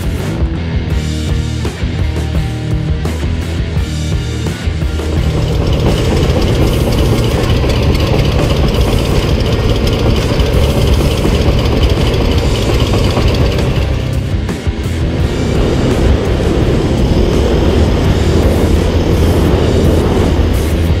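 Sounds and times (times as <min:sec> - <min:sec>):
engine idling: 0:03.8 - 0:21.0.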